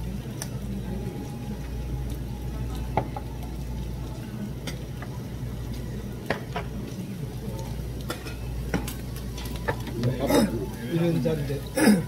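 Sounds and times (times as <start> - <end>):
meat sizzling on a grill plate: 0.1 - 11.8.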